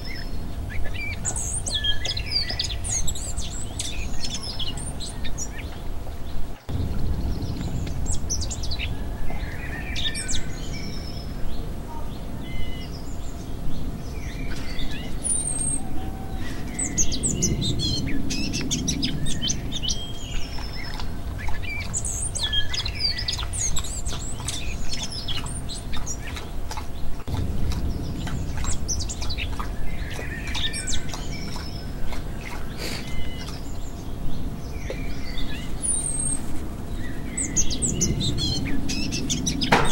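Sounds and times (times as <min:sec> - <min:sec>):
birds chirping and singing: 0:00.0 - 0:39.9
steady low rumble: 0:00.0 - 0:39.9.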